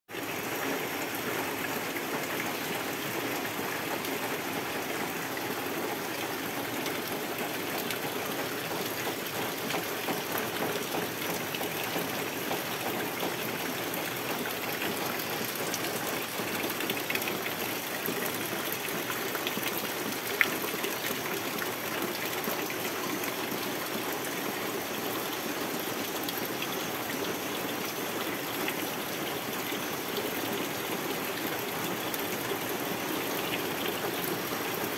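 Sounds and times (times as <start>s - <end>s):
rain splashing on water and leaves: 0.1s - 34.9s.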